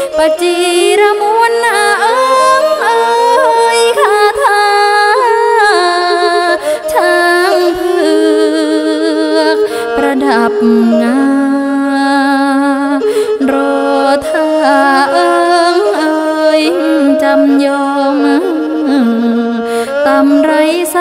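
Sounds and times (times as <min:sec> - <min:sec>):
two-string bowed fiddle: 0:00.0 - 0:21.0
woman singing with vibrato: 0:00.0 - 0:21.0.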